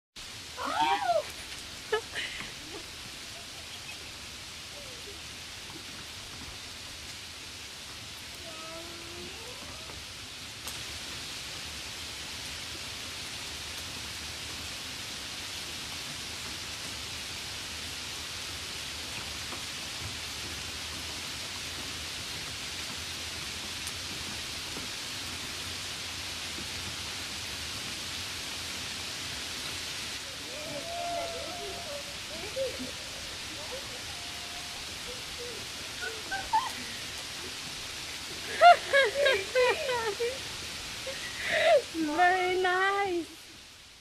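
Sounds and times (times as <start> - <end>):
wet snow pattering: 0.5 - 9.9, 13.4 - 43.4.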